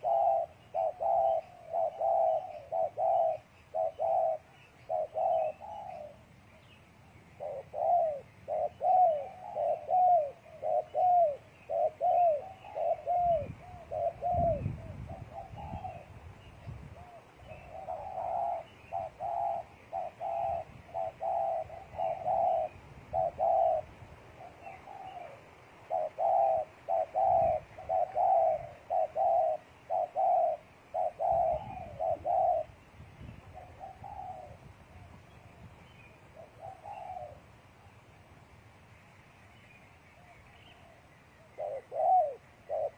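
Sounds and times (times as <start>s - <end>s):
doves cooing: 0.0s - 6.7s, 7.3s - 35.3s, 36.2s - 38.0s, 40.3s - 42.9s.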